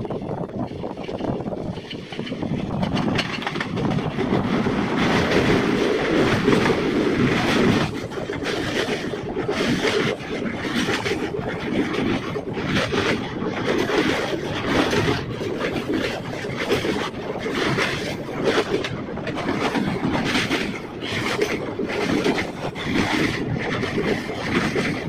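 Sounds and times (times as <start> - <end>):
wheels rumbling on rails: 0.0 - 25.0
wind buffeting microphone: 0.0 - 25.0.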